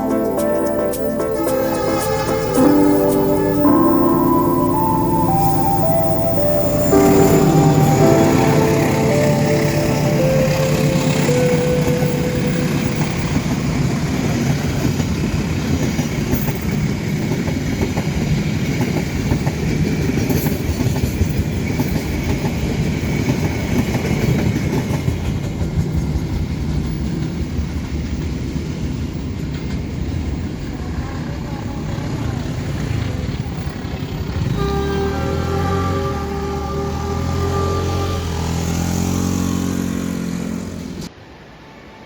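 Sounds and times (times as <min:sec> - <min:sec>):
train wheels rumbling on rails: 0:06.2 - 0:41.2.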